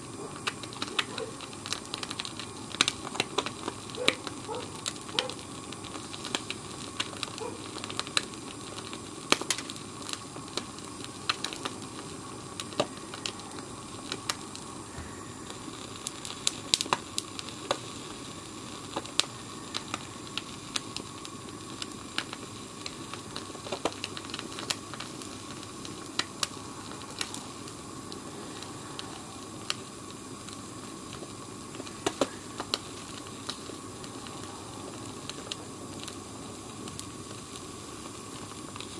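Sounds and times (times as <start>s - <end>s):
blowtorch flame hissing: 0.0s - 38.9s
egg crackling and sizzling: 0.0s - 38.9s.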